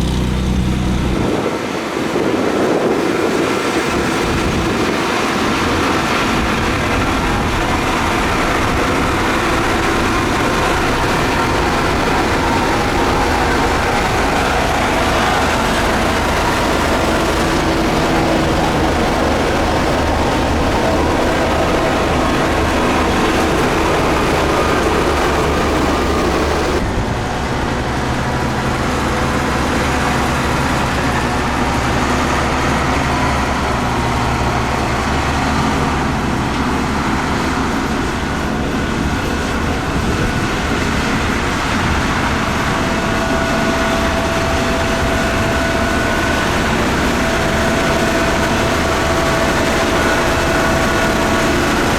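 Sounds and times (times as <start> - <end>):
diesel machinery engine drone: 0.0 - 51.9.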